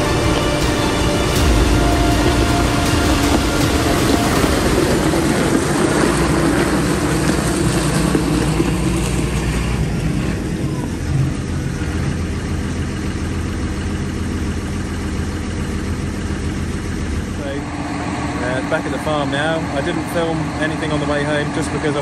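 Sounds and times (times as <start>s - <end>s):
tractor diesel engine passing: 0.0s - 22.0s.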